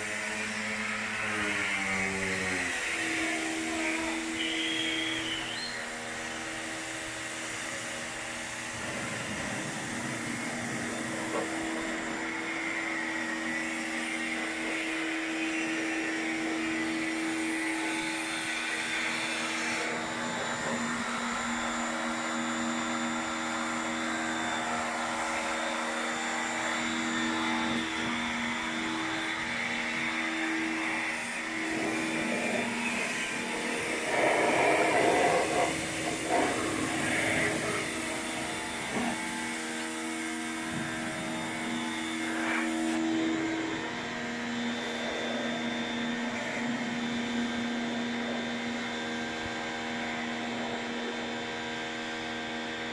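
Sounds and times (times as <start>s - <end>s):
small electric motor whirring: 0.0s - 52.9s.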